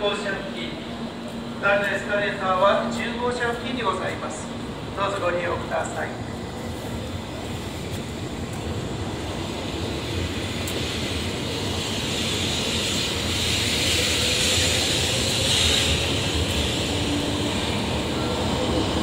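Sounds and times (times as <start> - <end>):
train running noise and motor whine: 0.0 - 19.0.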